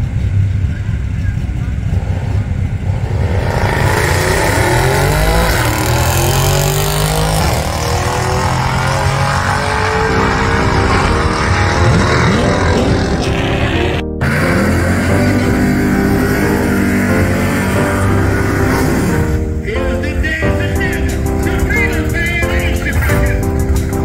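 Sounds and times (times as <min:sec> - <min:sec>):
drag car engine accelerating: 0:00.0 - 0:24.0.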